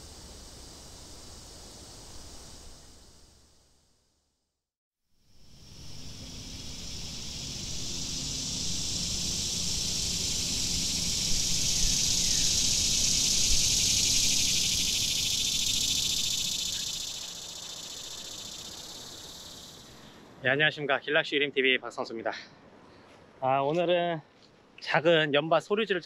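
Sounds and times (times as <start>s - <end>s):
insects buzzing: 0.0s - 4.1s, 5.2s - 22.3s.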